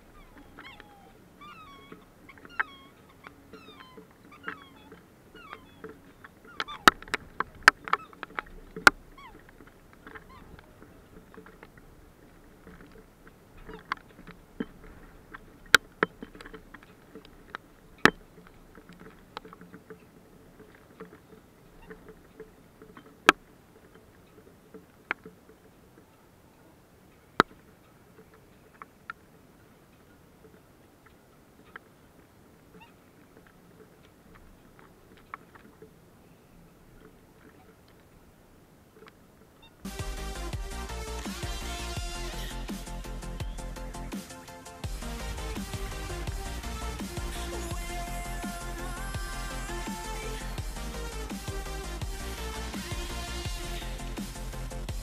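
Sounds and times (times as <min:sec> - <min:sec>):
bird calls: 0:00.0 - 0:55.0
faint low hum: 0:00.0 - 0:55.0.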